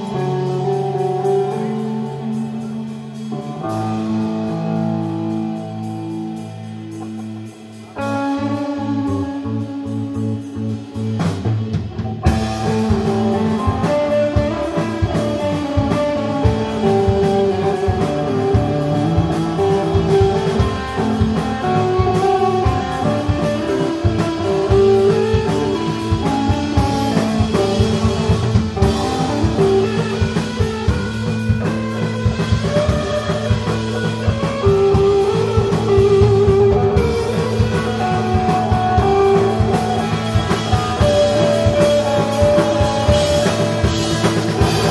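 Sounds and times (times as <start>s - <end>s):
distorted electric guitar: 0.0s - 44.9s
drum kit and cymbals: 0.0s - 44.9s.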